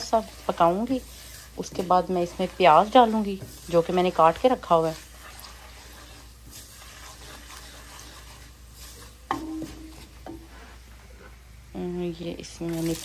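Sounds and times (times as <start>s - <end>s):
oil sizzling softly: 0.0s - 13.0s
wooden spoon stirring in pot: 0.0s - 13.0s.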